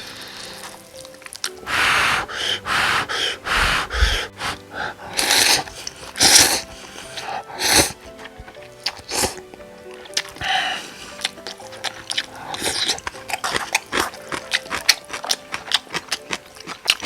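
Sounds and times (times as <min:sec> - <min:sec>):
faint background music: 0:00.0 - 0:17.0
noodles slurped: 0:00.1 - 0:17.0.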